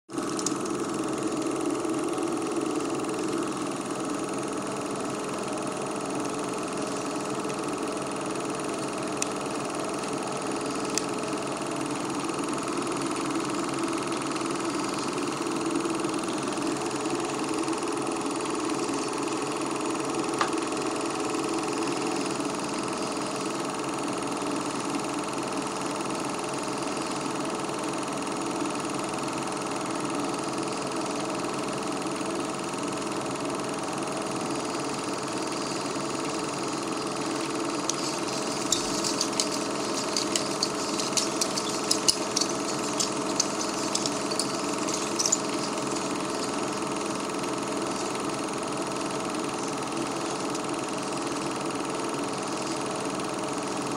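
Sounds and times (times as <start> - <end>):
film projector whirring: 0.1 - 53.9.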